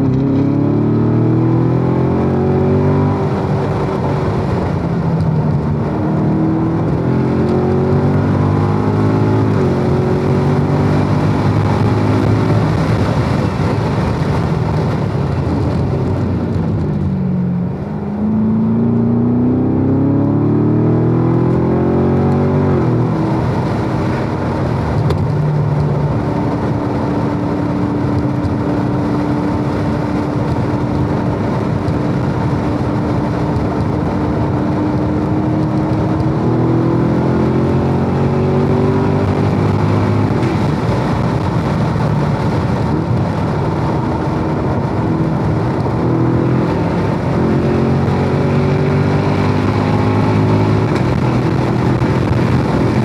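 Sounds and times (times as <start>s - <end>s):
car engine accelerating: 0.0s - 53.0s
wind and tyre noise: 0.0s - 53.0s.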